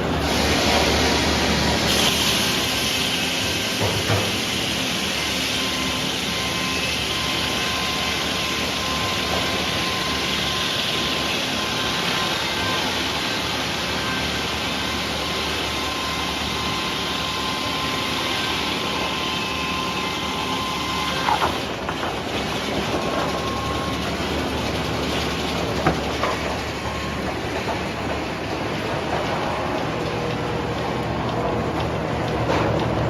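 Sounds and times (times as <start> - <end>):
sawmill sawing log: 0.2 - 27.0.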